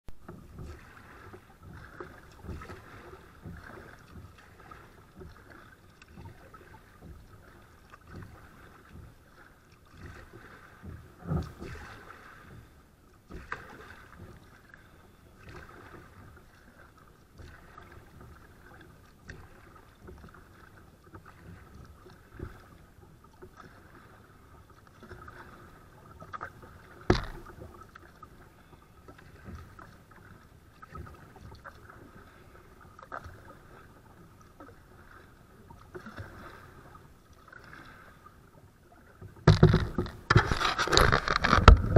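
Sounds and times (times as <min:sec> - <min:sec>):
kayak paddle strokes in water: 0:00.1 - 0:41.9.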